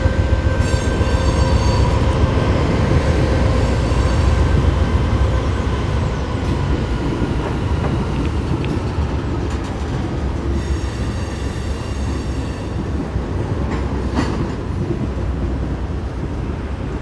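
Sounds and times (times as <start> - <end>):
freight train wheel rumble: 0.0 - 17.0.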